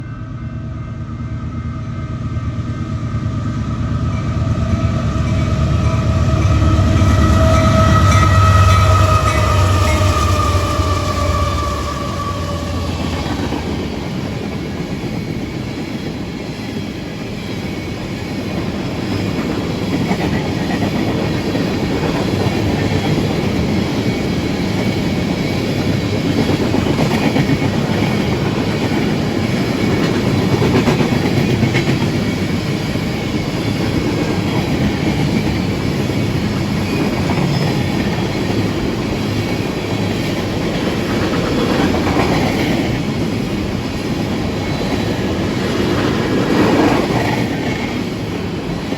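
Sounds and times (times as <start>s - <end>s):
train rolling over rails: 1.5s - 48.9s.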